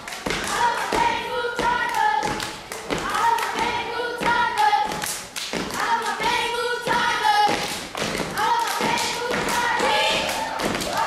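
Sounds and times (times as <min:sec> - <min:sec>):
stomping and clapping in rhythm: 0:00.0 - 0:11.0.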